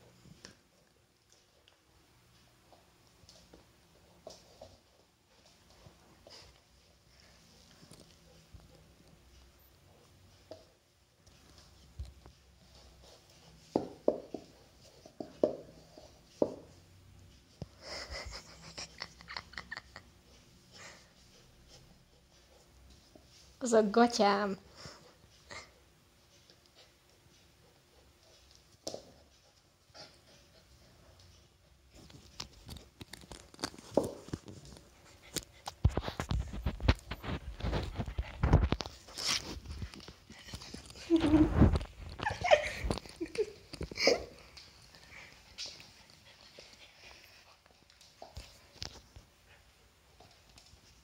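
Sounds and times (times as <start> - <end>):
puppy playing with rope toy: 0.0 - 51.0
light clicks and scratching: 0.2 - 25.5, 26.3 - 51.0.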